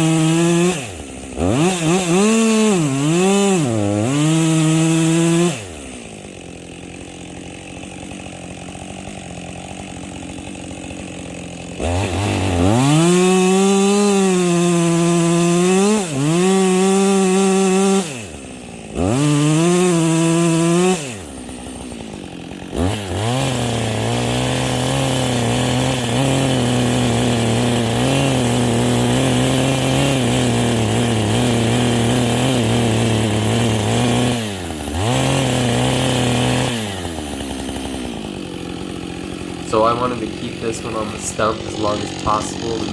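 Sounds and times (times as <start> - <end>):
chainsaw revving and cutting: 0.0 - 42.9.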